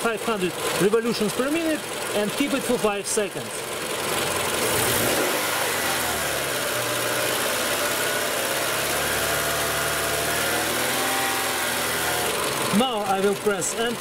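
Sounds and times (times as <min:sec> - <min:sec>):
car engine revving and held: 0:00.0 - 0:14.0.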